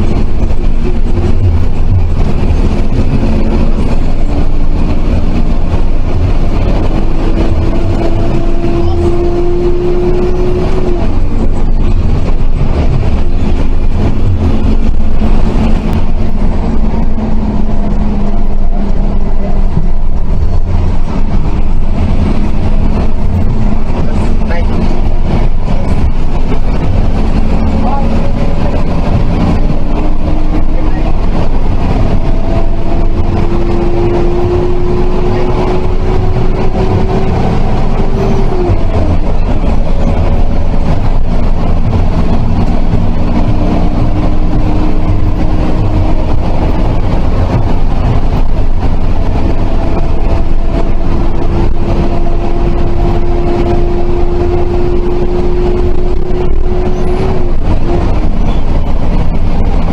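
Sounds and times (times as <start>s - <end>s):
bus engine and road rumble: 0.0s - 59.9s
engine whine: 0.0s - 59.9s.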